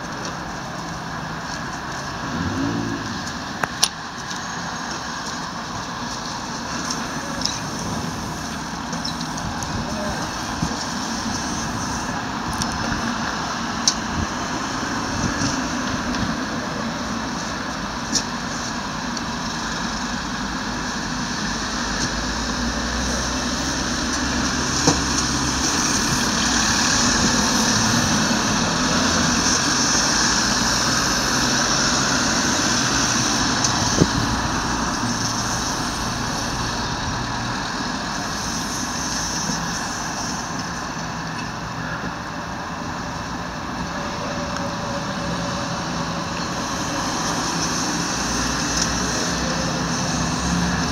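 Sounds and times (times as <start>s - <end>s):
road traffic noise: 0.0s - 50.9s.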